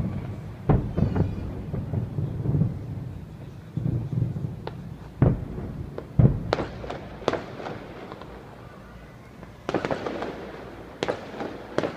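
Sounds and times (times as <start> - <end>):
fireworks crackling: 0.0 - 11.9
fireworks deep booms: 0.0 - 11.9
fireworks sharp bangs: 0.0 - 11.9.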